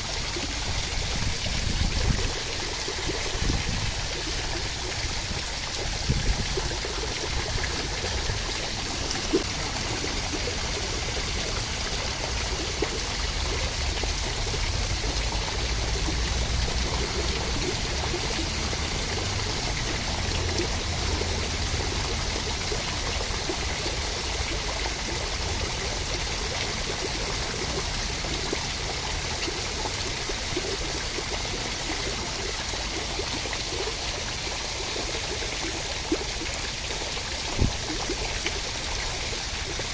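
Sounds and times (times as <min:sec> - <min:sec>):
steady rain: 0:02.3 - 0:39.9.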